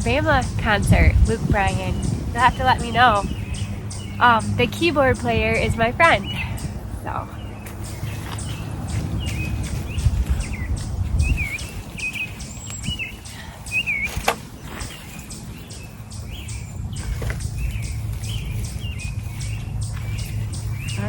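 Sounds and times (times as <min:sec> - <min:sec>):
low rumble: 0:00.0 - 0:21.0
songbirds chirping: 0:00.0 - 0:21.0.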